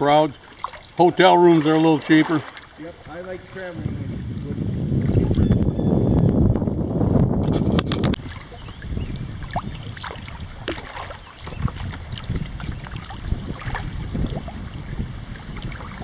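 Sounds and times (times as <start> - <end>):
water splashing and dripping: 0.0 - 5.7, 7.8 - 16.0
wind rumble on microphone: 2.8 - 16.0.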